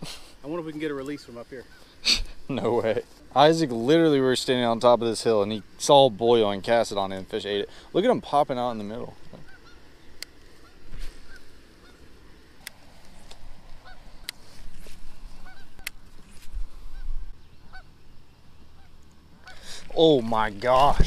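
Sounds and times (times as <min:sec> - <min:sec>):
geese honking: 0:00.5 - 0:12.8, 0:13.6 - 0:14.6, 0:15.2 - 0:16.1, 0:16.8 - 0:21.0.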